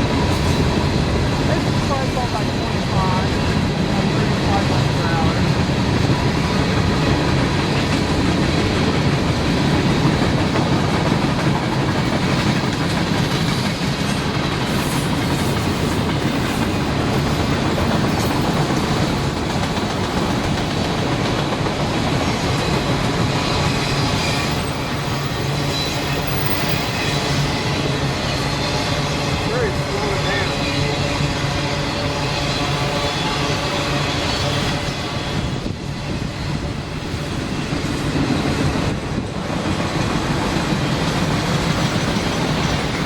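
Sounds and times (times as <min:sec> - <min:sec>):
clickety-clack over rail joints: 0:00.0 - 0:43.0
train wheels rumbling on rails: 0:00.0 - 0:43.0.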